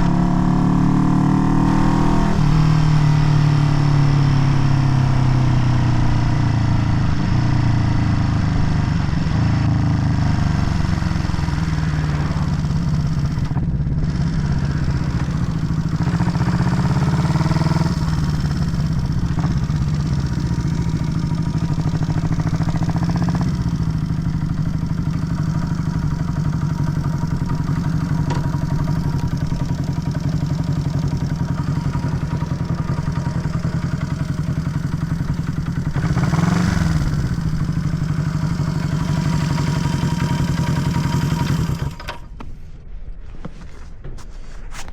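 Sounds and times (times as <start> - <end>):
motorcycle engine running: 0.0 - 42.5.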